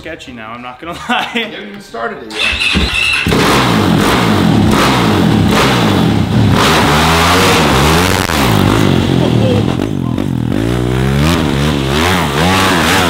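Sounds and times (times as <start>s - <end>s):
kart engine revving: 2.3s - 13.0s.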